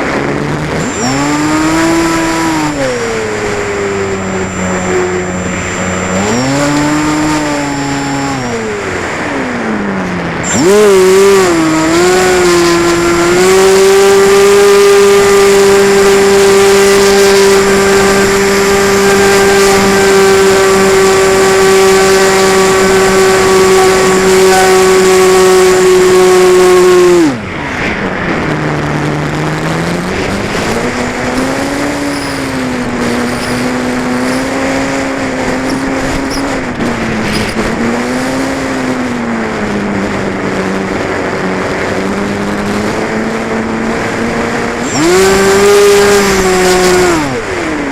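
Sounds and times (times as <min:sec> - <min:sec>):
model airplane engine and propeller: 0:00.0 - 0:47.9.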